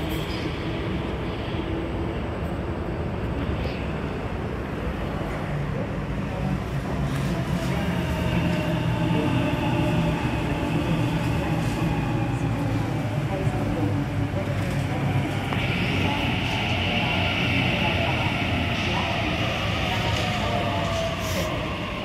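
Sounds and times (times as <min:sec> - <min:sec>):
electric train rumbling past: 0:00.0 - 0:22.0.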